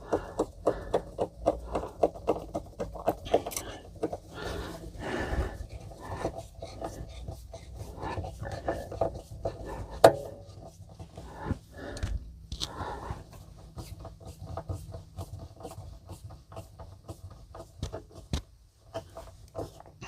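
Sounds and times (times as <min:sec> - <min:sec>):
rubbing and scraping with knocks: 0:00.0 - 0:20.0.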